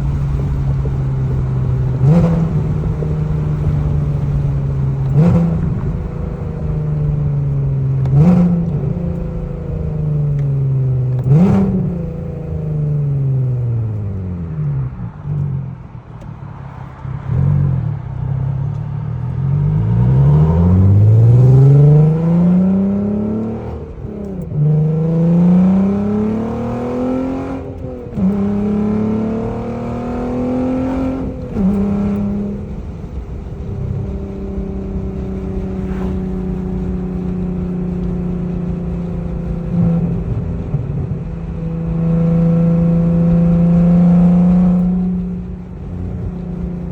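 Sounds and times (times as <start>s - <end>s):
car engine revving while driving: 0.0s - 46.9s
exhaust cracks on downshifts: 0.0s - 46.9s.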